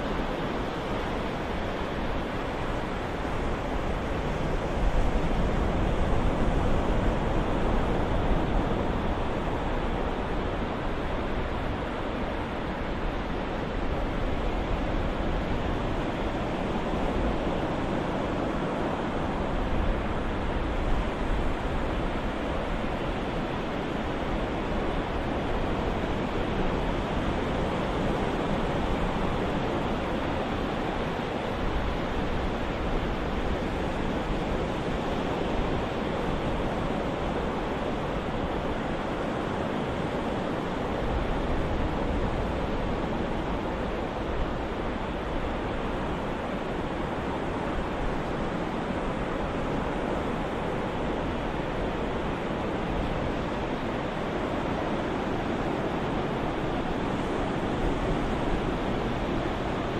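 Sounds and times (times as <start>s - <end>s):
surf rushing: 0.0s - 59.9s.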